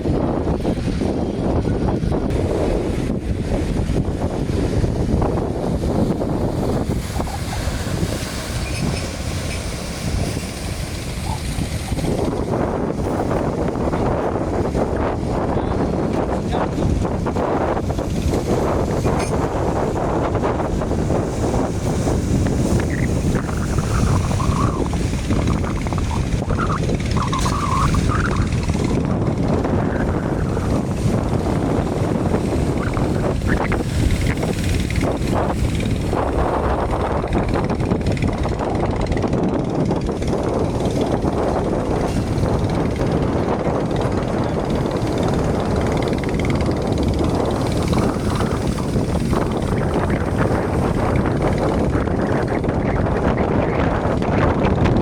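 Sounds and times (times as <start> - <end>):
motorboat engines droning: 0.0 - 55.0
wind buffeting microphone: 0.0 - 55.0.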